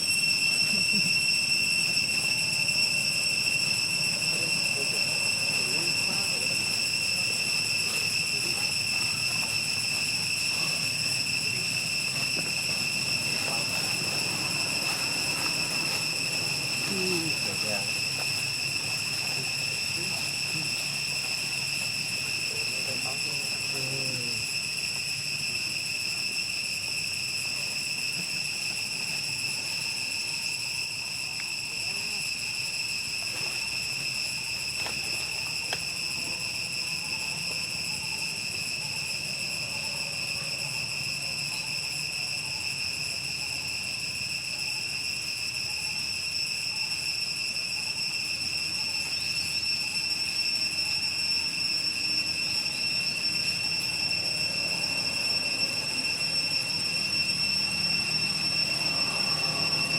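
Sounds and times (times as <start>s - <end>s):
high-pitched insect trill: 0.0s - 59.9s.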